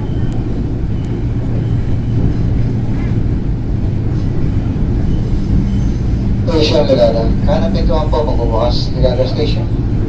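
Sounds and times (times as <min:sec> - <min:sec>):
low steady hum: 0:00.0 - 0:10.0
train rumbling inside passenger car: 0:00.0 - 0:10.0.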